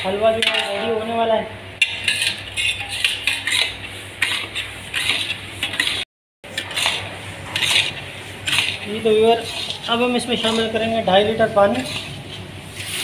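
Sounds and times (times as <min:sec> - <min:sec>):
spatula scraping metal pot: 0:00.1 - 0:00.9, 0:01.8 - 0:13.0.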